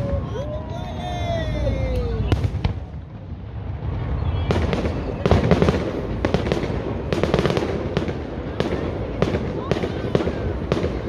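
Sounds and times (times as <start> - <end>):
low rumble: 0.0 - 9.3
fireworks bangs: 1.6 - 11.0
fireworks crackling pops: 1.9 - 11.0.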